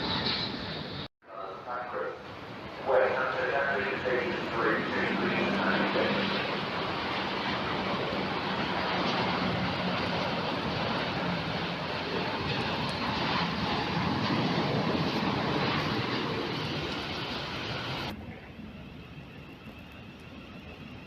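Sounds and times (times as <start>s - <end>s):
jet engines roaring overhead: 0.0s - 21.0s.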